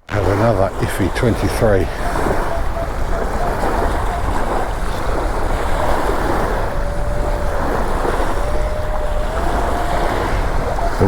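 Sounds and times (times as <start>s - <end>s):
surf: 0.0s - 11.0s
wind buffeting microphone: 0.0s - 11.0s.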